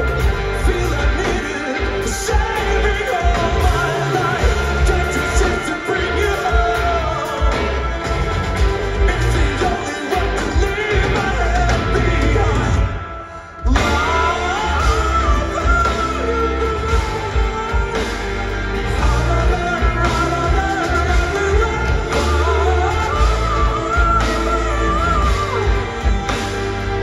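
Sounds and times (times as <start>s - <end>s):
live rock band playing: 0.0s - 27.0s
person singing: 0.0s - 27.0s.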